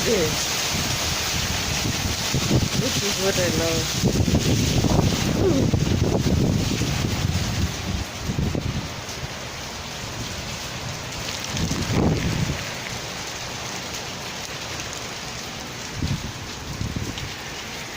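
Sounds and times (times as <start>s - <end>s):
heavy rain pouring: 0.0s - 17.9s.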